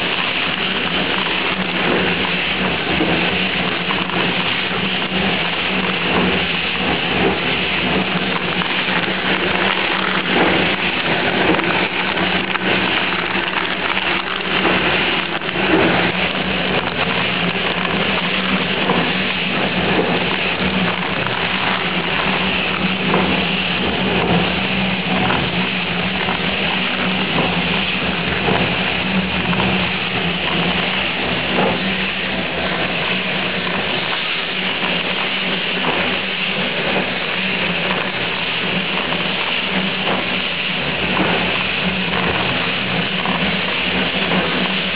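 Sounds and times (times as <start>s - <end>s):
machinery humming: 0.0s - 44.9s.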